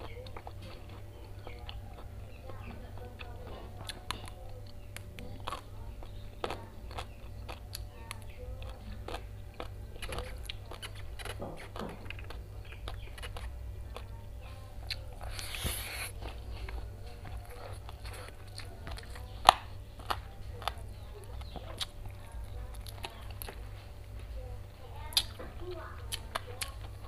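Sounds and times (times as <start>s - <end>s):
person chewing: 0.0s - 24.2s, 25.1s - 27.0s
crunchy rustle: 0.0s - 27.0s
low steady hum: 0.0s - 27.0s.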